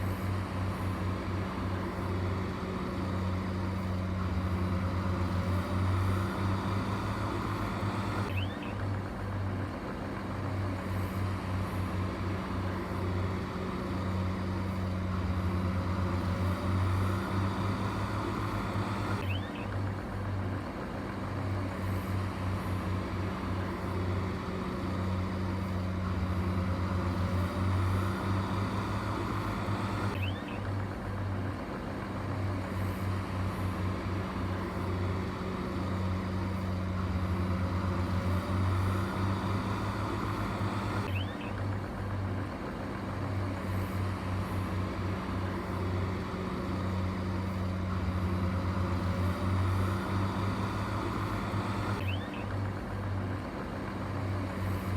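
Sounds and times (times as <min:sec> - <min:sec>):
heavy machine engine humming: 0:00.0 - 0:54.9.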